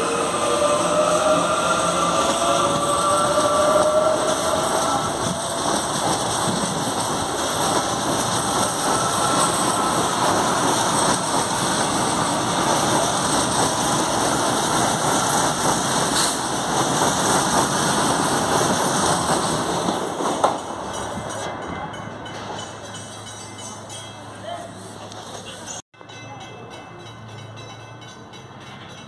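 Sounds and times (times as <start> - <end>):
train wheels on rail: 0.0 - 29.0.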